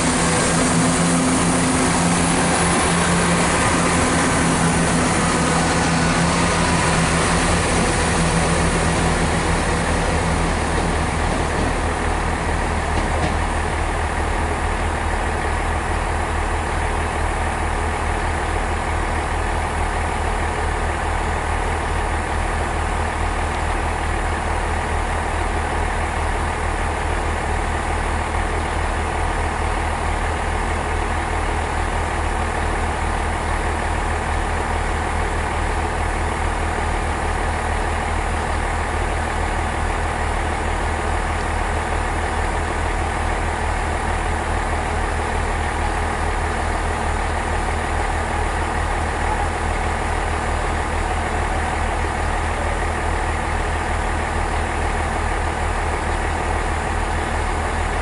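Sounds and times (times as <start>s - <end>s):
diesel train engine idling: 0.0s - 58.0s.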